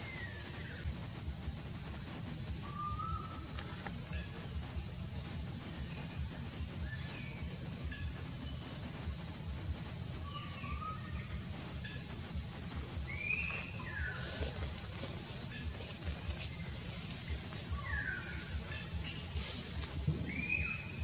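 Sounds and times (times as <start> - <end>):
faint chirping calls: 0.0 - 1.2, 1.8 - 21.0
insects droning: 0.0 - 21.0.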